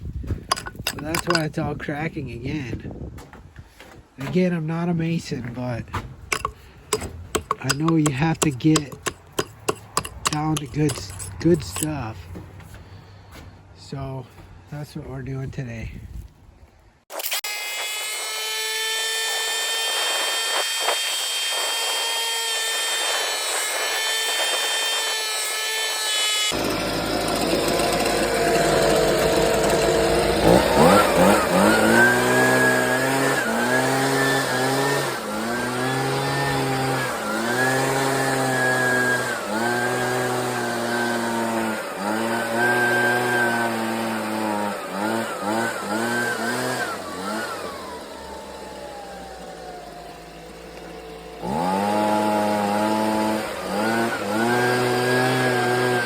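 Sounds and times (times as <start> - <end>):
leaf blower engine revving: 0.5 - 1.5, 6.3 - 12.1, 17.4 - 56.0.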